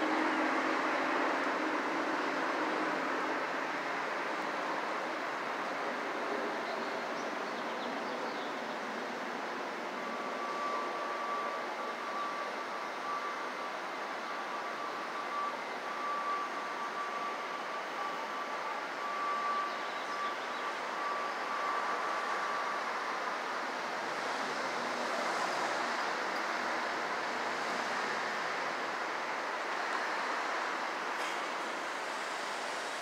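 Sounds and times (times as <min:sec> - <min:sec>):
city street traffic noise: 0:00.0 - 0:33.0.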